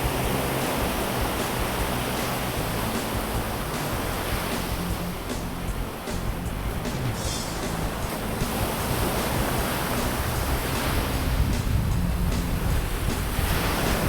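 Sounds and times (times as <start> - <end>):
surf breaking on beach: 0.0 - 14.0
wind on microphone: 0.0 - 14.0.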